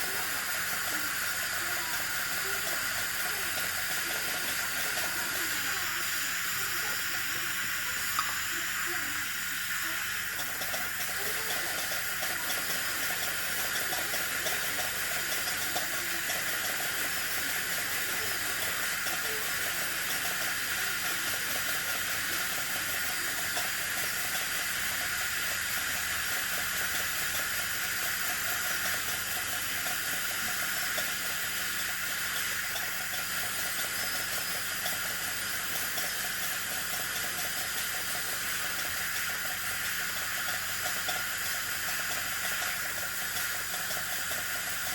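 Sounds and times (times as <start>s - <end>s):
dental drill hiss: 0.0s - 44.9s
dental suction: 0.0s - 44.9s.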